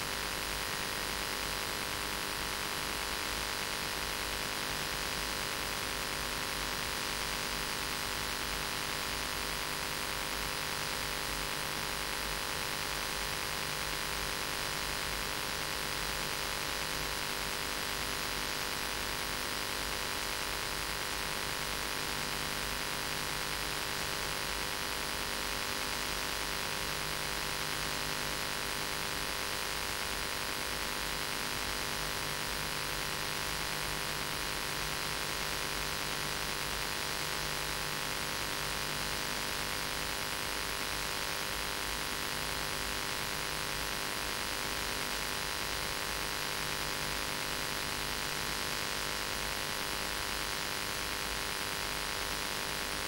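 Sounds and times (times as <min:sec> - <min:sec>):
mains hum: 0:00.0 - 0:53.0.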